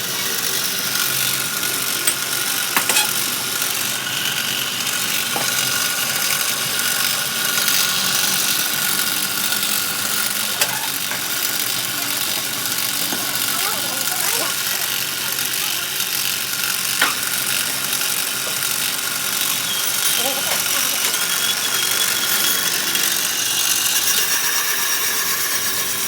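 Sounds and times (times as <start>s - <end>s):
machine running with hiss and whine: 0.0s - 26.0s.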